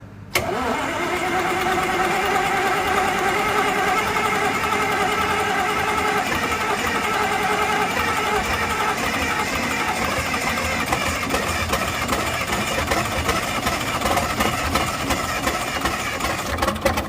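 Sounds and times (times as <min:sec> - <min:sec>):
diesel generator running: 0:00.0 - 0:17.0.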